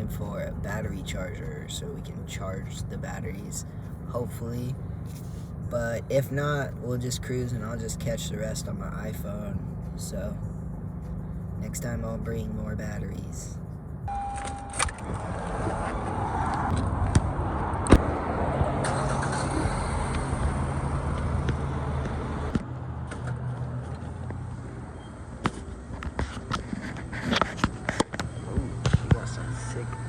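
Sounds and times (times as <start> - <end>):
road noise: 0.0 - 30.0
vehicle engine hum: 0.0 - 30.0.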